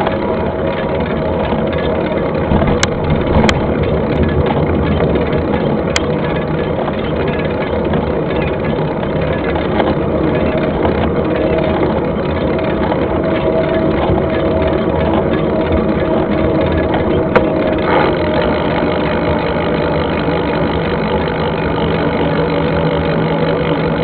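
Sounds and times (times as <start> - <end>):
bike tyres and frame rattling: 0.0 - 24.0.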